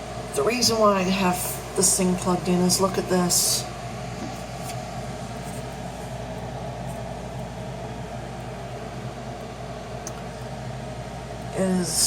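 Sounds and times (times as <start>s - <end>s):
electrical hum with fan rush: 0.0s - 12.0s.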